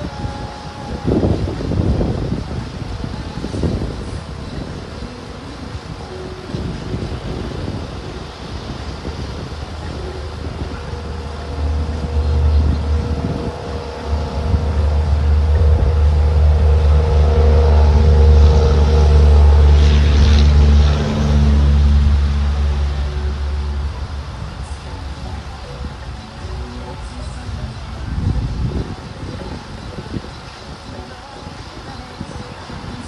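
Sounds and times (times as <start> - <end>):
engine rumbling: 0.0 - 33.0.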